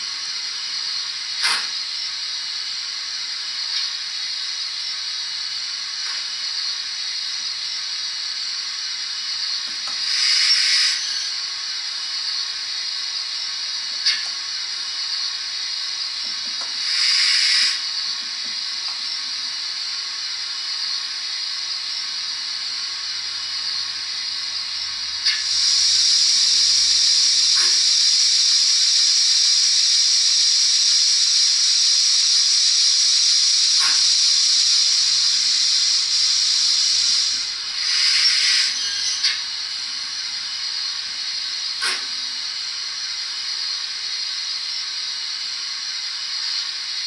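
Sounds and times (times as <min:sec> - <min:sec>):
steam hiss from small speaker: 0:00.0 - 0:47.0.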